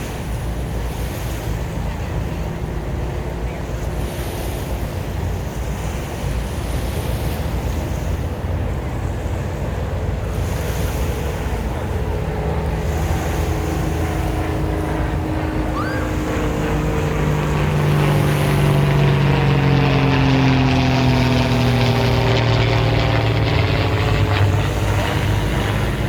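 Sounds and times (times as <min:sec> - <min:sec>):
motorboat engine passing by: 0:00.0 - 0:26.0.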